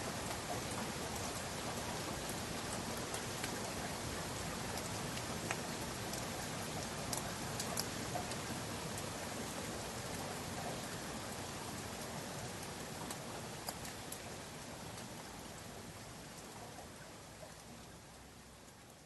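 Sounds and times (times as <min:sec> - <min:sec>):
steady rain hiss: 0:00.0 - 0:19.0
raindrops ticking: 0:00.1 - 0:19.0.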